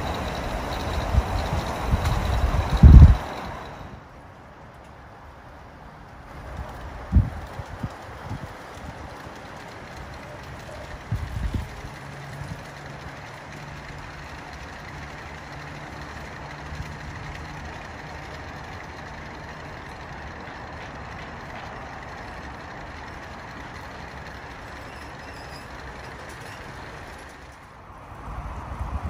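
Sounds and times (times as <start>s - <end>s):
model train cars rumbling on track: 0.0s - 29.0s.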